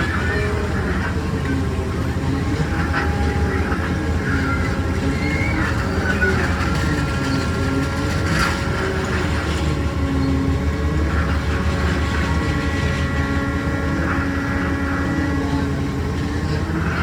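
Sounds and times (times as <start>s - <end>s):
carnival ride machine rumble: 0.0s - 17.0s.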